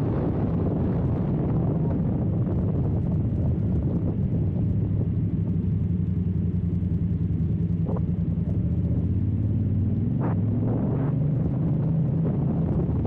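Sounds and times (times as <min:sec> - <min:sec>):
motorcycle engine rumbling: 0:00.4 - 0:13.0.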